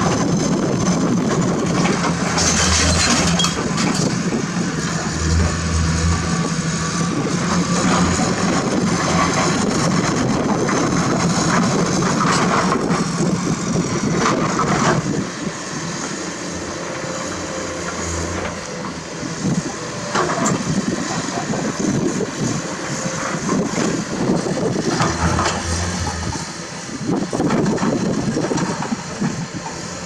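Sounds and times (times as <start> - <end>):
excavator diesel engine running: 0.0 - 30.0
noisy clatter: 0.0 - 30.0.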